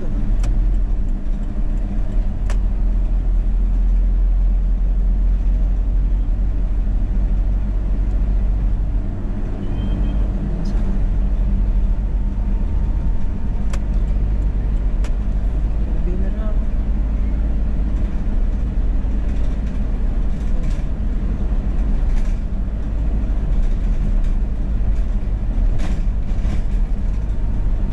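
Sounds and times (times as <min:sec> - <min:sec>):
car road and engine rumble: 0:00.0 - 0:27.9.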